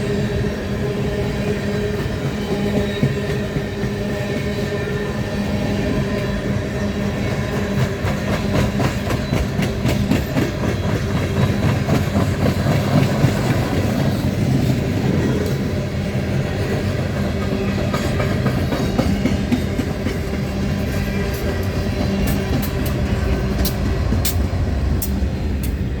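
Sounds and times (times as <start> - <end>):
train cars rumbling past: 0.0 - 26.0.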